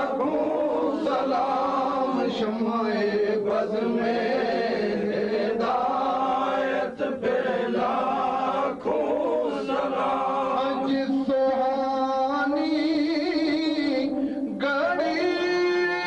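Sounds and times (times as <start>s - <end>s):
men singing devotional chant: 0.0s - 16.0s.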